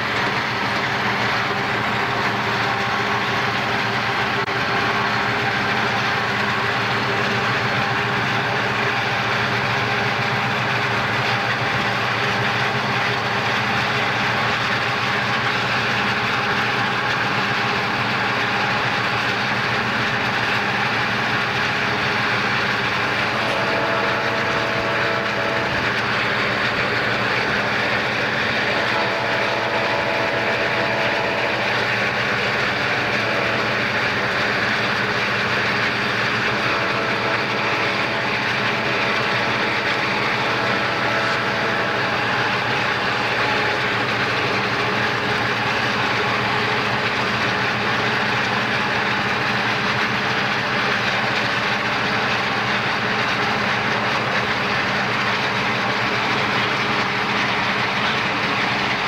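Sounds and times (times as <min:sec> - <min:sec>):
diesel locomotives running: 0:00.0 - 0:59.0.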